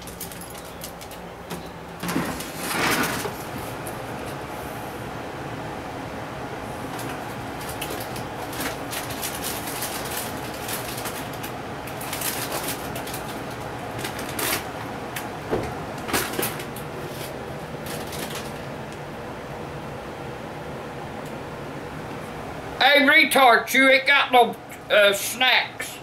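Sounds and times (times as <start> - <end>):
room hum: 0.0 - 26.0.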